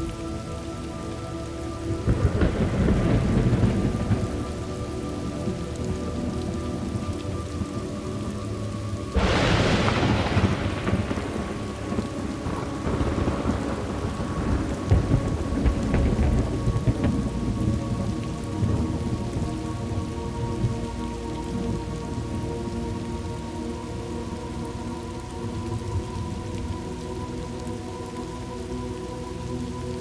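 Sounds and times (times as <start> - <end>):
steady rain falling: 0.0 - 30.0
thunder rumbling: 1.8 - 27.7.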